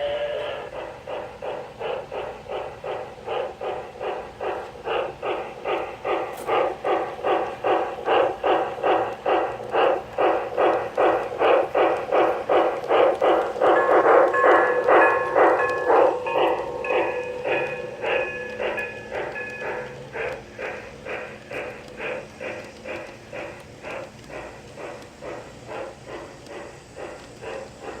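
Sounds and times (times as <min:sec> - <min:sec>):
model steam locomotive chuffing: 0:00.0 - 0:28.0.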